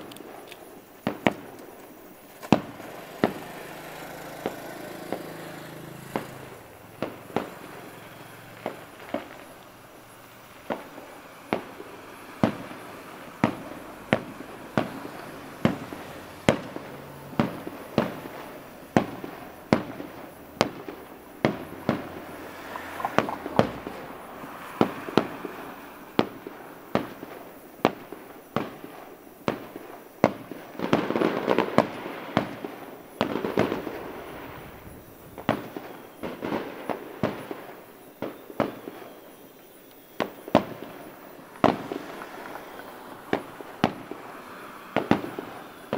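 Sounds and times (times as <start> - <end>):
firework crackle: 0.0 - 45.9
firework shells bursting: 0.0 - 45.9.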